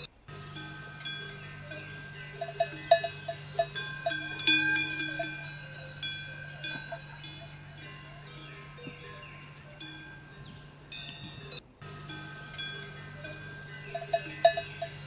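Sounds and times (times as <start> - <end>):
metal bells clanking: 0.0 - 15.0
steady low hum: 0.0 - 15.0.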